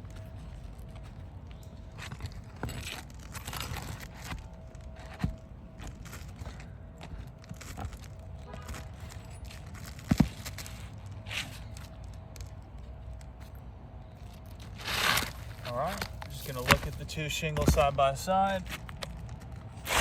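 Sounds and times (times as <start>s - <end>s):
roofing shingles rustling and scraping: 0.0s - 20.0s.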